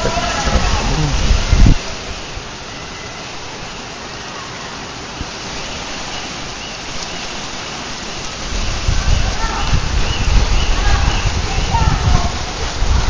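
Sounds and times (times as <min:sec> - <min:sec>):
heavy rain on street: 0:00.0 - 0:13.0.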